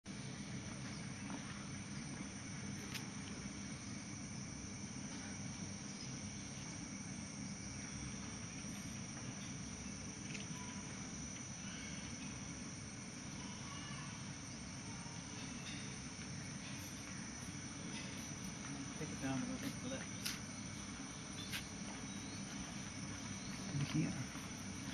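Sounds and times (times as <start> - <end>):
insects droning: 0.1 - 24.9.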